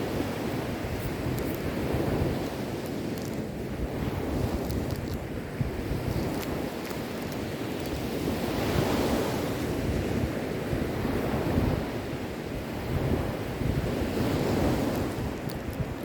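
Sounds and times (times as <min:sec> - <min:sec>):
sea waves washing onto shore: 0:00.0 - 0:16.0
wind blowing across microphone: 0:00.0 - 0:16.0.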